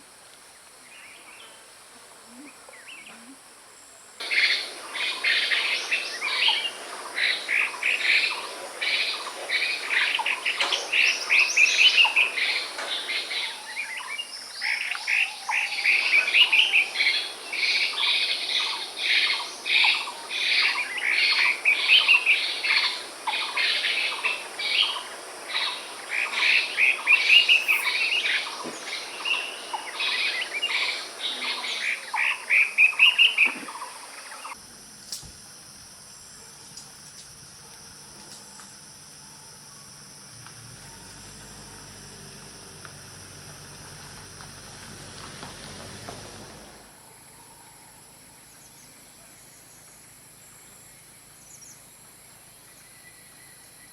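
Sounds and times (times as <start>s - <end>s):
songbird singing: 0.5s - 53.9s.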